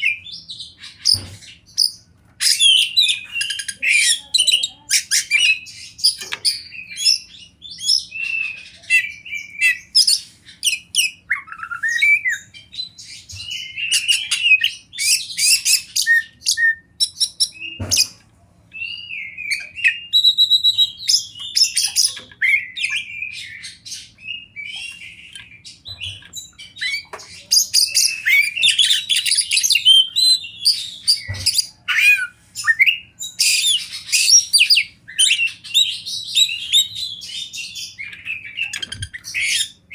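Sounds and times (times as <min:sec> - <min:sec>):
magpie-robin singing whistled song: 0:00.0 - 0:39.9.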